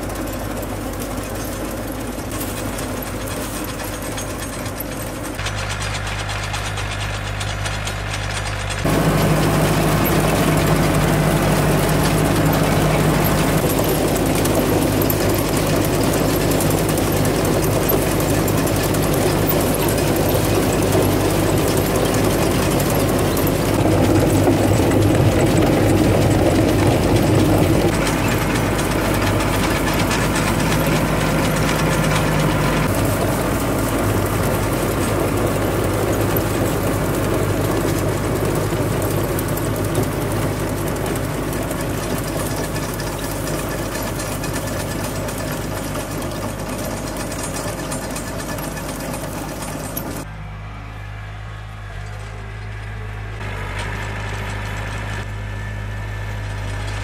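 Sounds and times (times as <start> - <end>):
chain conveyor clattering: 0.0 - 50.3
tractor diesel engine running: 0.0 - 57.0.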